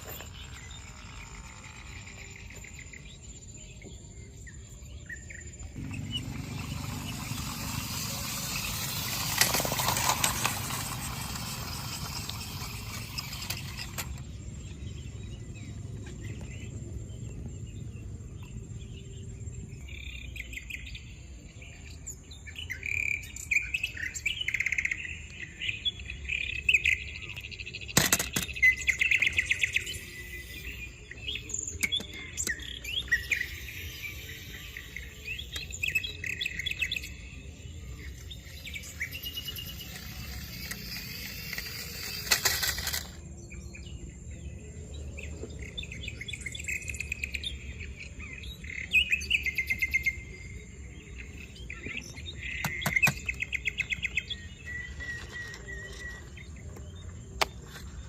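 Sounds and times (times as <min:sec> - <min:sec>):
high insect-like whine: 0:00.0 - 0:58.0
small birds chirping: 0:00.0 - 0:58.0.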